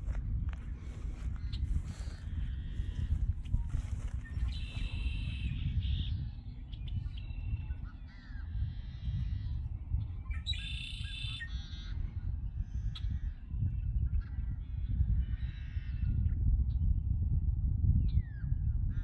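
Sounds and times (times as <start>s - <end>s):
steady low rumble: 0.0s - 19.0s
harsh bird calls: 0.8s - 16.2s.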